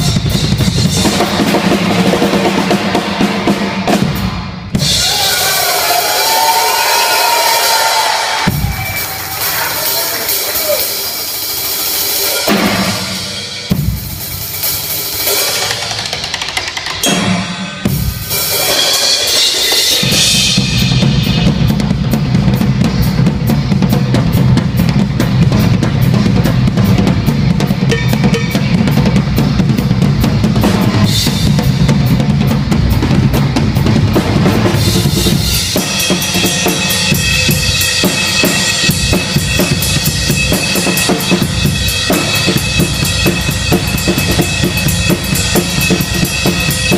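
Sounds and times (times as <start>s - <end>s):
drum hits: 0.0s - 46.9s
fast low drum roll: 0.0s - 46.9s.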